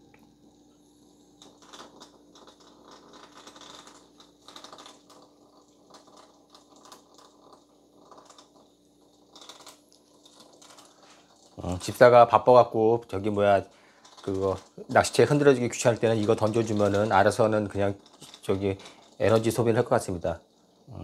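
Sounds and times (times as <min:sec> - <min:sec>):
toy clicking and skittering on floor: 0:01.4 - 0:12.3, 0:13.1 - 0:21.0.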